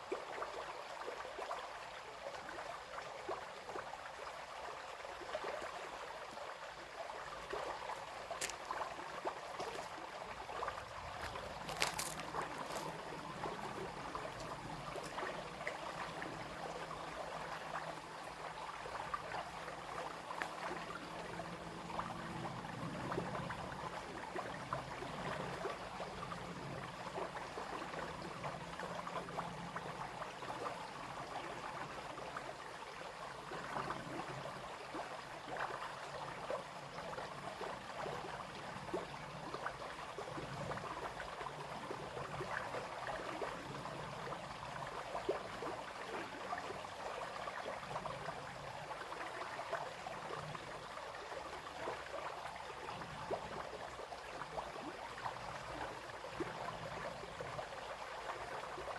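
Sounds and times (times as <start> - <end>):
brook babbling over stones: 0.0 - 58.9.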